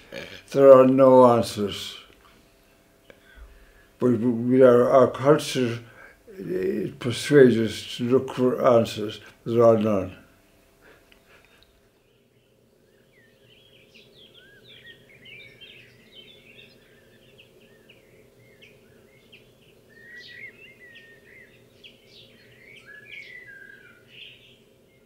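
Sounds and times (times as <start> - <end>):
faint low hum: 0.0 - 25.0
small birds chirping: 0.0 - 25.0.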